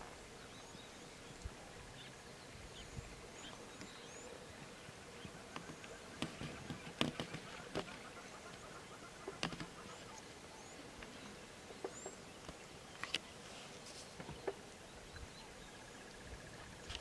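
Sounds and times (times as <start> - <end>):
faint insect hiss: 0.0 - 17.0.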